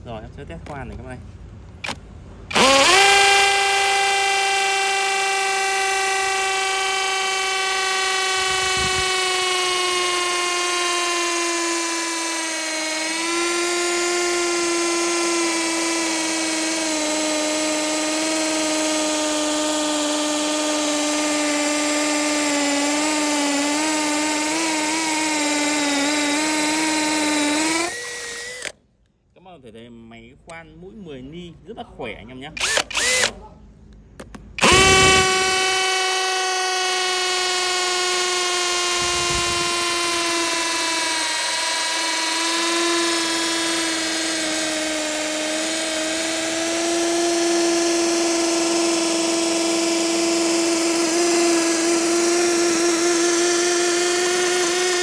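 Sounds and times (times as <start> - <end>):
cordless drill drilling into tile: 1.8 - 28.8, 32.6 - 33.3, 34.6 - 55.0.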